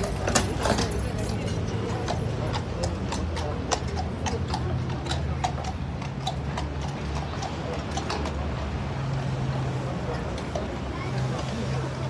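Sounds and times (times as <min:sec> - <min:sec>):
hooves clip-clopping on cobblestones: 0:00.0 - 0:12.0.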